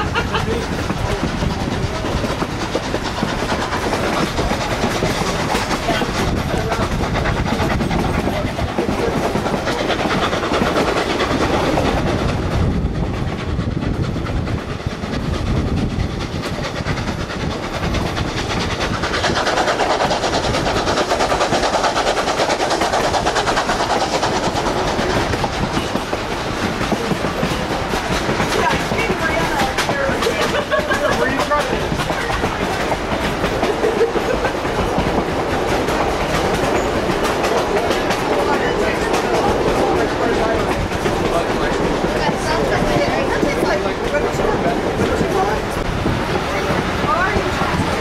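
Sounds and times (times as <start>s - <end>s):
train wheels running on rails: 0.0s - 48.0s.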